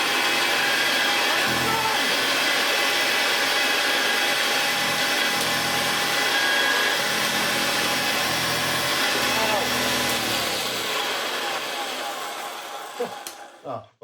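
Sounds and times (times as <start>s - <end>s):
upright vacuum cleaner running: 0.0s - 13.6s.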